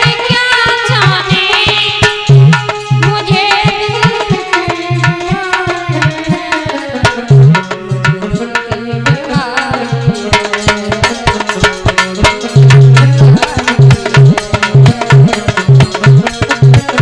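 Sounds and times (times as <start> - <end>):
tabla beating fast rhythm: 0.0 - 17.0.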